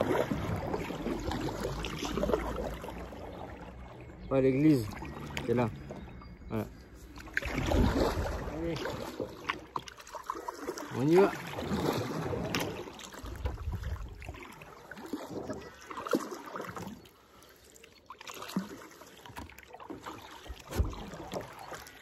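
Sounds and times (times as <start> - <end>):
kayak paddle strokes in water: 0.0 - 22.0
water dripping from paddle blades: 0.0 - 22.0.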